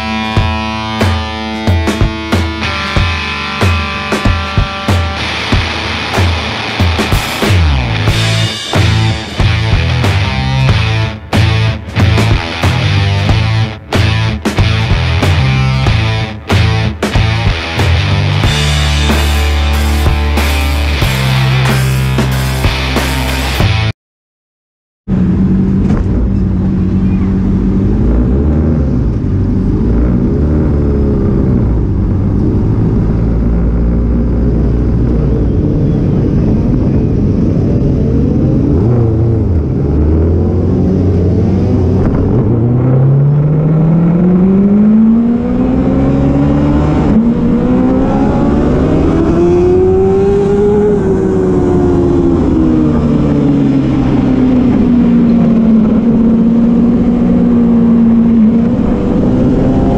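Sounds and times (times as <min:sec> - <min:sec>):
race motorcycle engine accelerating: 0:00.0 - 0:23.9, 0:25.1 - 0:59.9.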